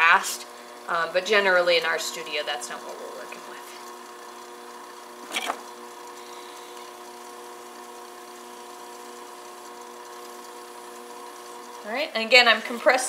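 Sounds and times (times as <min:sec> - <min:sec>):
potter's wheel motor humming: 0:00.0 - 0:13.0.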